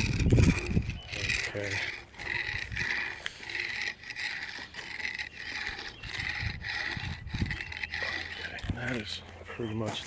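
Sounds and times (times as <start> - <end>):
tool scraping fiberglass: 0.0 - 9.2.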